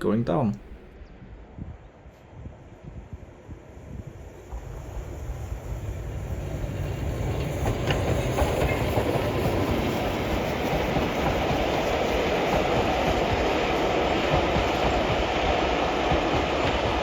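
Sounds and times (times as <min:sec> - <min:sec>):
steam train wheels on rails: 0:01.5 - 0:17.0.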